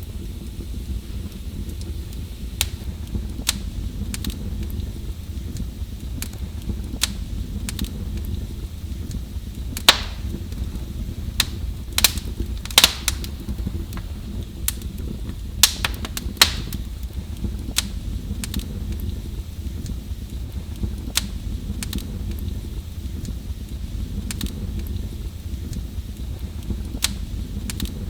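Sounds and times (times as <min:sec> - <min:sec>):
fire crackling and popping: 0:00.0 - 0:28.0
low fire rumble: 0:00.0 - 0:28.0.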